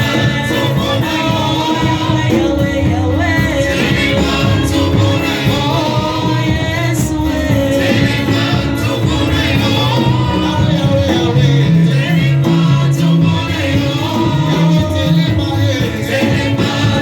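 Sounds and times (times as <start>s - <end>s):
instrumental accompaniment: 0.0s - 17.0s
voices singing gospel song: 0.0s - 17.0s.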